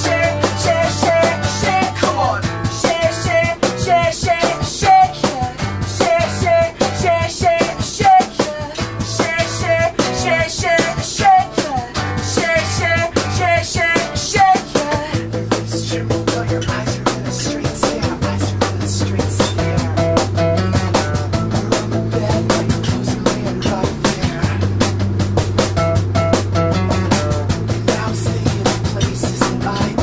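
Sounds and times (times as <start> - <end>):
man singing: 0.0 - 20.4, 21.3 - 24.8, 27.5 - 30.0
acoustic guitar strumming: 0.0 - 30.0.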